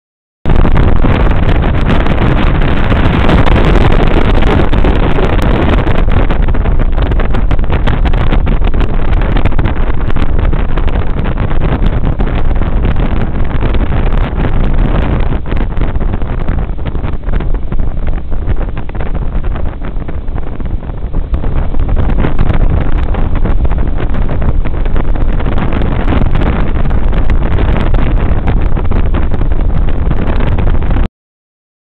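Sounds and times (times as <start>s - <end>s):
motorboat engine: 0.5s - 31.1s
rushing water: 0.5s - 31.1s
wind buffeting microphone: 0.5s - 31.1s.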